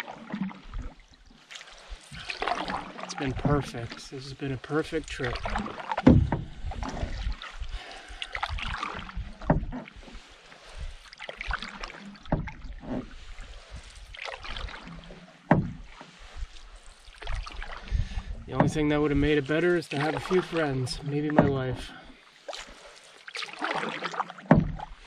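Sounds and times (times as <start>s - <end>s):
canoe paddle swishing through water: 0.0s - 25.0s.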